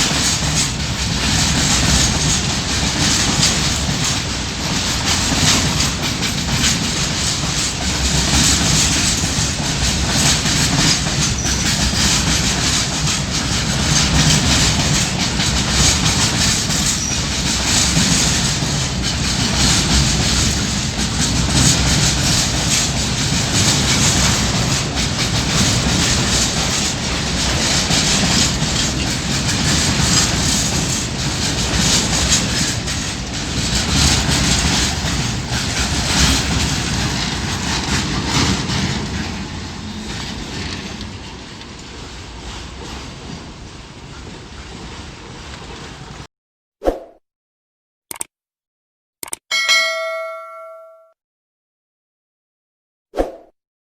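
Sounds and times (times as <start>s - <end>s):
train wheels clattering over rail joints: 0.0s - 46.3s.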